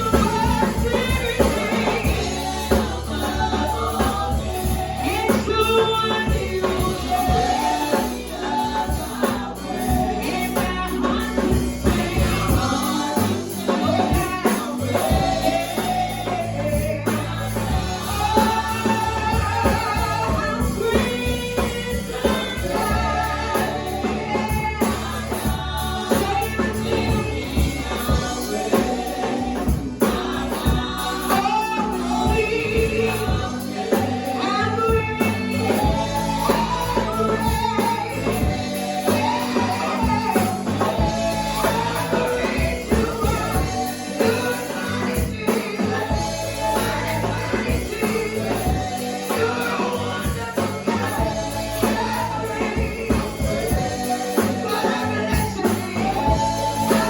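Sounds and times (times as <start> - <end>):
gospel choir and band: 0.0 - 57.0
tambourine: 0.0 - 57.0.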